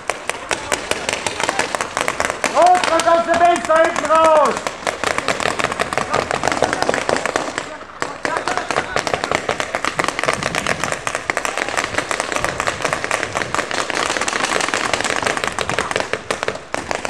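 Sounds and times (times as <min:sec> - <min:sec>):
paintball markers firing: 0:00.0 - 0:17.0.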